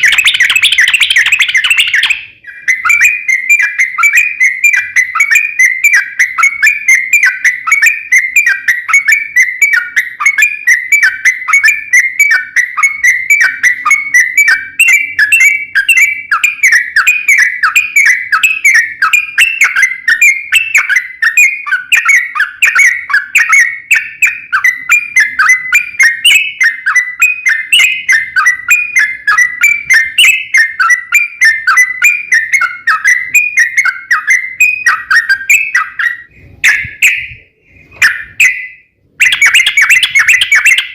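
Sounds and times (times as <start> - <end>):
bird chattering song: 0.0 - 40.9.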